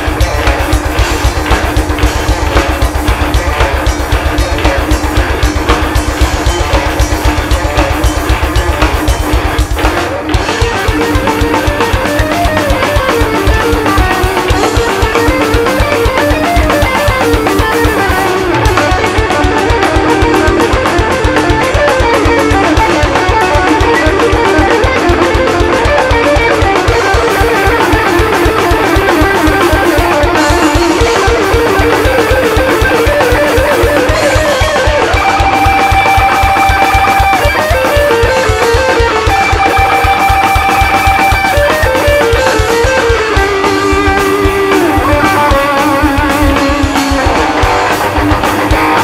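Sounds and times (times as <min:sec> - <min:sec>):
distorted electric guitar riffing: 0:00.0 - 0:49.0
fast drumming: 0:00.0 - 0:49.0.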